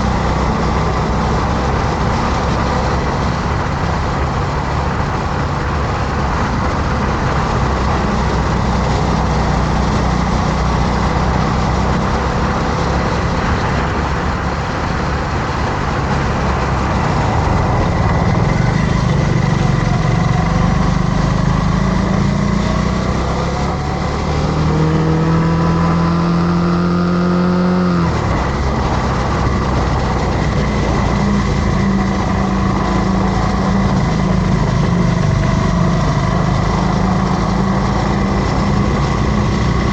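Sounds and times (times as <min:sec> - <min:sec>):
motorcycle engine revving: 0:00.0 - 0:39.9
road noise: 0:00.0 - 0:39.9.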